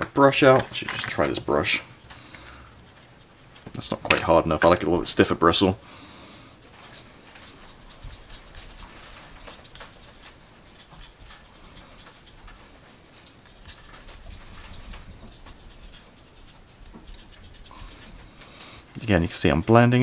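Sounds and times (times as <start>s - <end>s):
paintbrush scratching on plastic: 0.9s - 5.7s, 6.6s - 20.0s.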